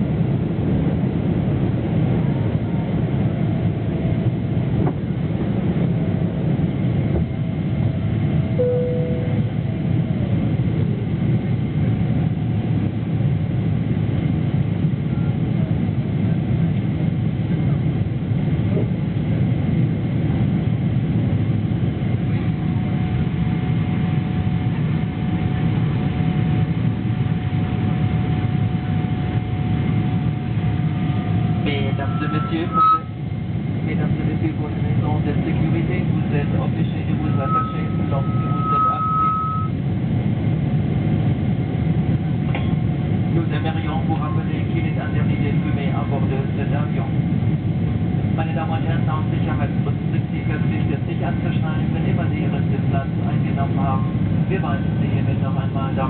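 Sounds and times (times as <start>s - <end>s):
aircraft cabin engine rumble: 0.0s - 56.0s
faint engine whine: 0.0s - 56.0s.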